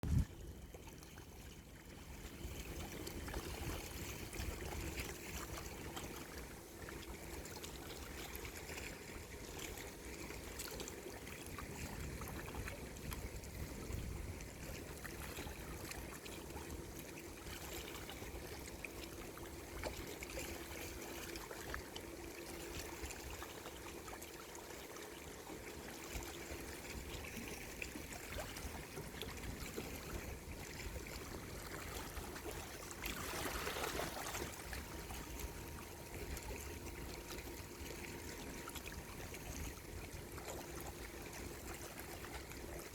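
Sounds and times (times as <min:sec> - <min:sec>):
faint steady hum: 0:00.0 - 0:42.9
sea water lapping: 0:00.0 - 0:42.9.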